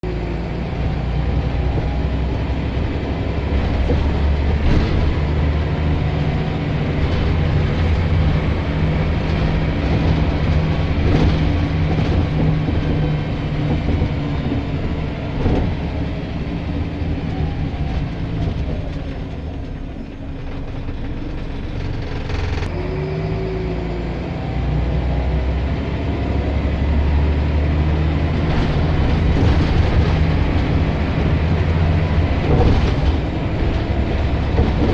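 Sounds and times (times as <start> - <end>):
bus diesel engine running: 0.0 - 34.9
knocks and rattles: 1.5 - 22.7, 27.7 - 34.9.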